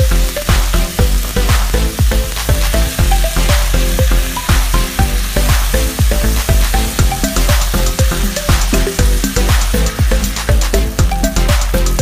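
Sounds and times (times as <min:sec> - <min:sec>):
beef sizzling in a pan: 0:00.0 - 0:12.0
music with bass beat: 0:00.0 - 0:12.0.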